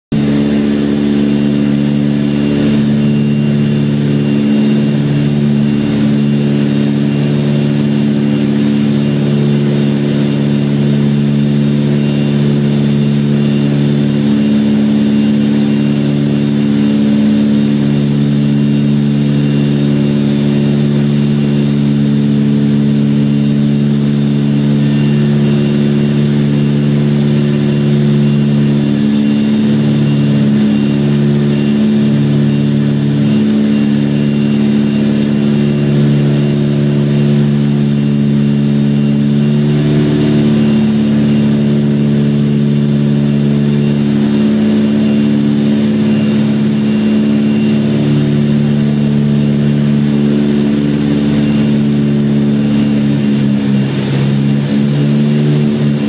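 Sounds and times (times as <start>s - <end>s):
aircraft engines and propellers droning: 0.0s - 56.0s.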